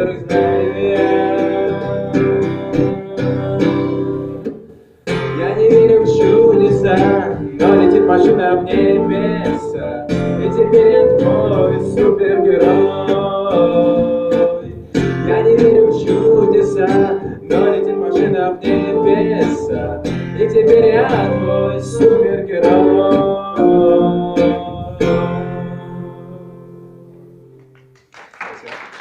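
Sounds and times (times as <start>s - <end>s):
pop song with strummed guitar: 0.0s - 27.6s.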